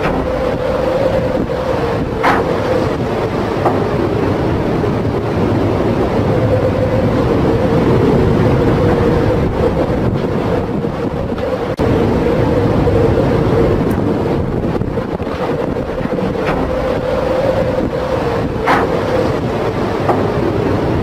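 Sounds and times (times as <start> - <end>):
heavy seas: 0.0 - 21.0
steady drone: 0.0 - 21.0
storm wind blasting microphone: 0.0 - 21.0.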